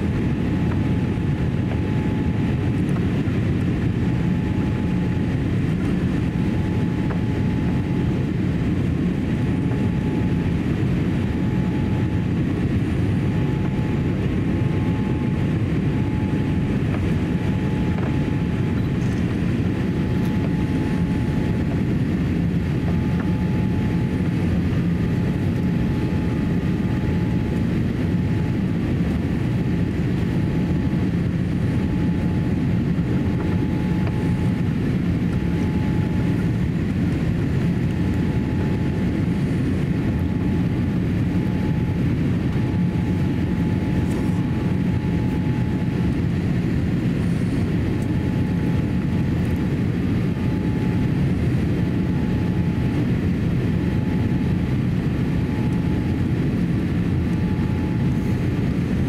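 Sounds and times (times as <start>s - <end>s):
airplane cabin airflow and engines: 0.0s - 59.0s.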